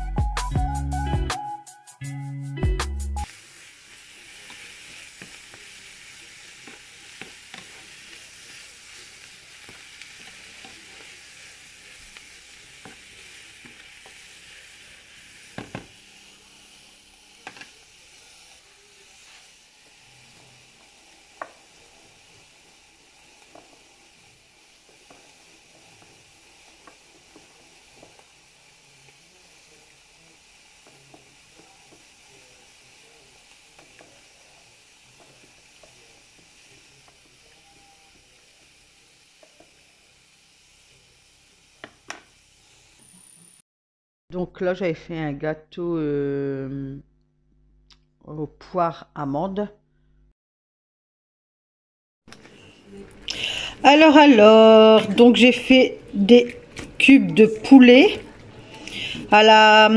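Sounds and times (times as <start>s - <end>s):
food sizzling in frying pan: 3.2s - 43.6s, 52.3s - 59.9s.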